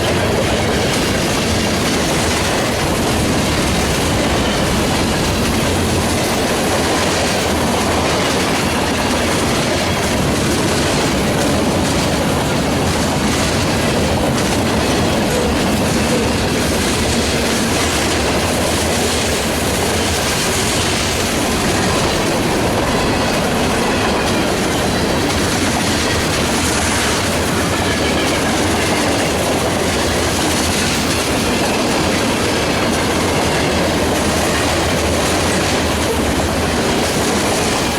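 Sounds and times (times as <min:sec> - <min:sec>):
train wheels clicking over rail joints: 0:00.0 - 0:37.9.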